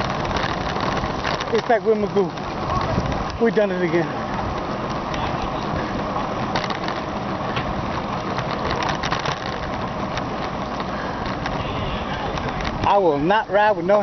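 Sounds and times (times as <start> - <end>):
bicycle rushing on road: 0.0 - 14.0.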